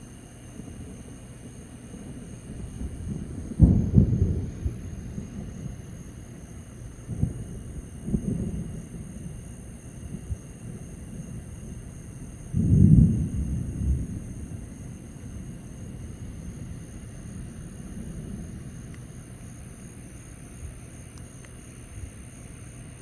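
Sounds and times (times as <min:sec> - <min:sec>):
distant thunder rumble: 0:00.6 - 0:19.9.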